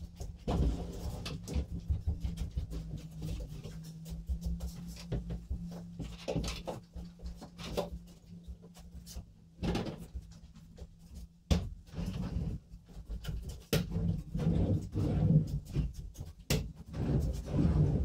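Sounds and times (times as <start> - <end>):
wooden knocks and scrapes: 0.0 - 8.2, 11.6 - 18.0
low steady hum: 0.0 - 18.0.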